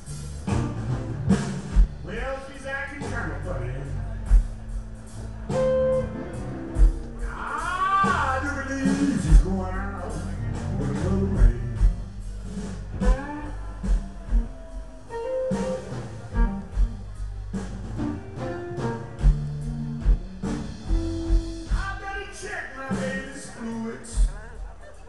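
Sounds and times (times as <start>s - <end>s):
blues guitar bent notes: 0.0s - 24.2s
bass line: 0.0s - 25.0s.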